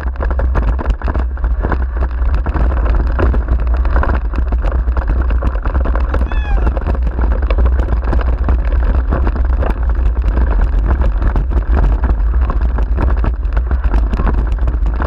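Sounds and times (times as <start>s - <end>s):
deep rumble: 0.0s - 15.0s
rig frame and wheels rattling: 0.0s - 15.0s
wind buffeting microphone: 0.0s - 15.0s.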